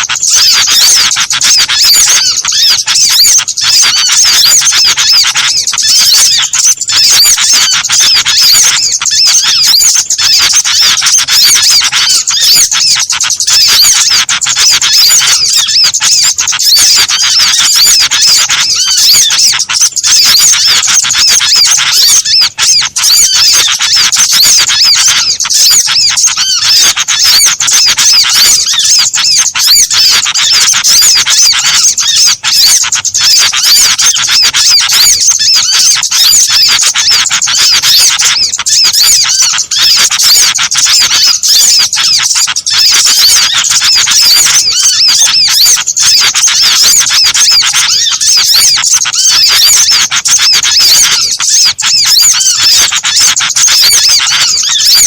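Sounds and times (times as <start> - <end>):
chorus of small birds chirping: 0.0 - 55.0.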